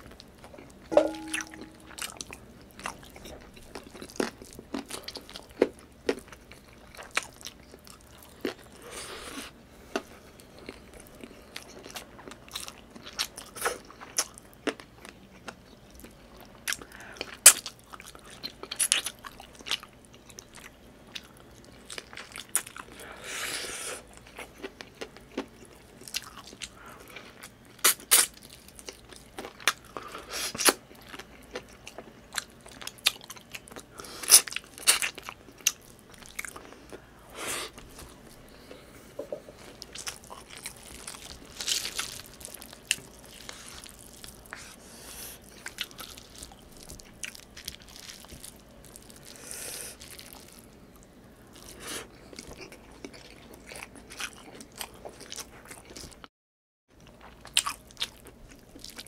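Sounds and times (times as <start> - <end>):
person chewing and eating: 0.0 - 56.3, 57.0 - 59.0.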